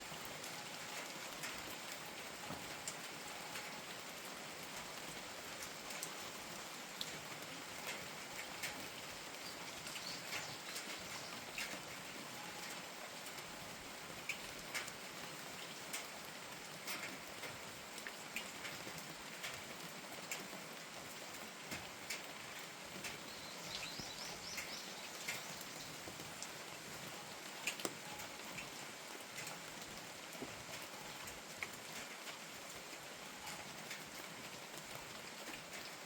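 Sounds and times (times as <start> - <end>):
gentle rain falling: 0.0 - 36.0
raindrops ticking: 0.0 - 36.0.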